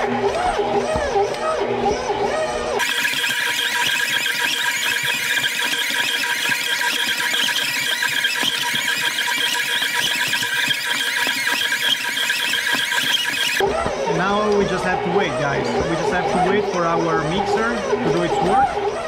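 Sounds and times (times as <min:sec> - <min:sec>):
stand mixer motor whirring: 0:00.0 - 0:19.0.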